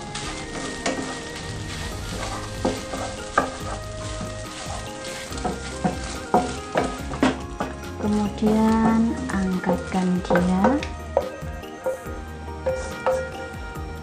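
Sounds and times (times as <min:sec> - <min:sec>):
wooden spatula scraping a pan: 0:00.0 - 0:13.5
eggs sizzling in hot oil: 0:00.0 - 0:14.0.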